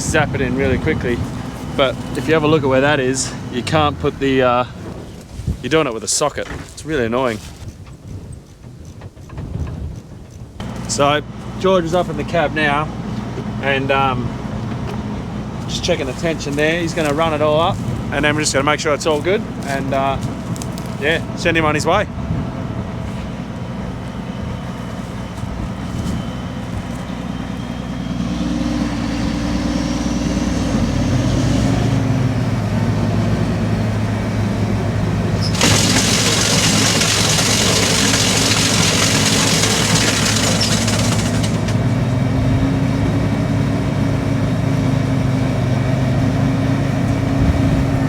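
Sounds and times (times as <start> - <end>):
diesel engine revving: 0.0 - 6.2, 10.6 - 48.0.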